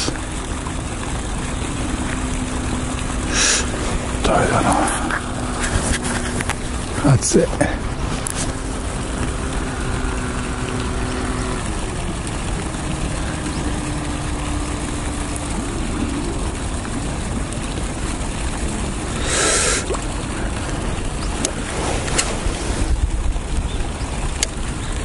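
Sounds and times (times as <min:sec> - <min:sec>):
wind buffeting microphone: 0:00.0 - 0:19.2, 0:19.8 - 0:25.0.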